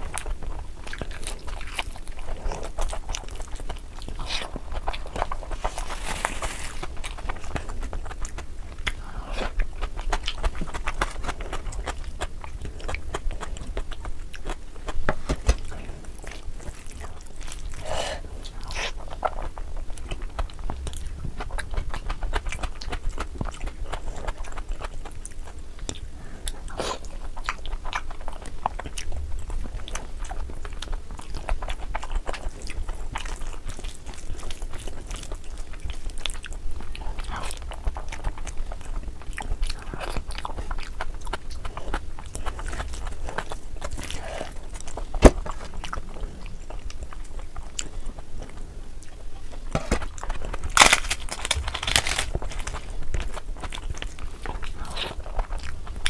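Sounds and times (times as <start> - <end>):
person chewing with mouth smacks: 0.0 - 56.0.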